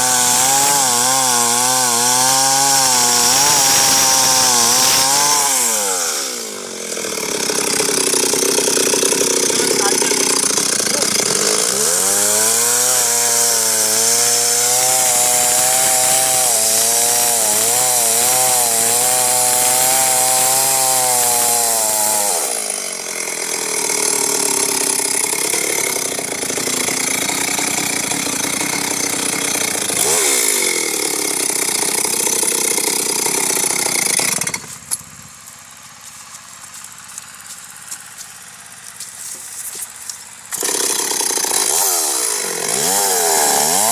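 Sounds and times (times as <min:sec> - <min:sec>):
chainsaw cutting through tree: 0:00.0 - 0:43.9.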